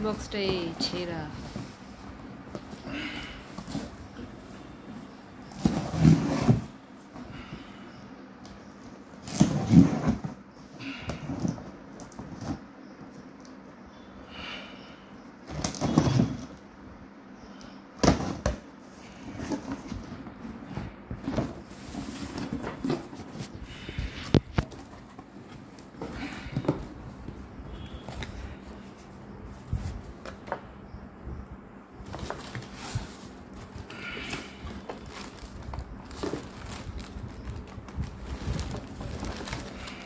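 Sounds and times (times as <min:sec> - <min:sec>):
cardboard flaps scraping and rustling: 0:00.3 - 0:07.8, 0:08.7 - 0:12.7, 0:15.4 - 0:16.6, 0:18.0 - 0:30.6, 0:32.0 - 0:40.0.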